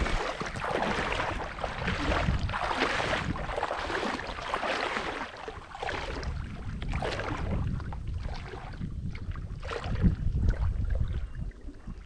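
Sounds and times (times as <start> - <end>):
water sloshing and splashing: 0.0 - 12.0
wind rumble on microphone: 0.0 - 12.0.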